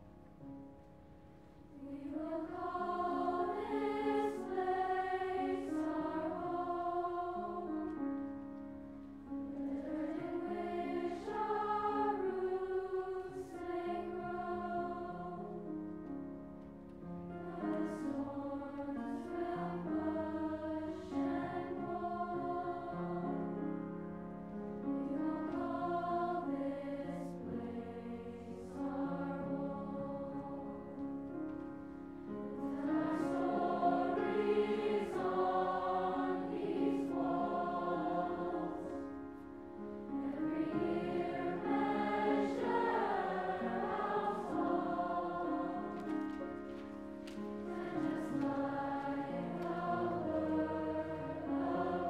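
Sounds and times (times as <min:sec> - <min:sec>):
piano accompaniment: 0:00.0 - 0:52.0
choir singing in harmony: 0:01.4 - 0:08.5, 0:09.2 - 0:16.2, 0:17.2 - 0:52.0.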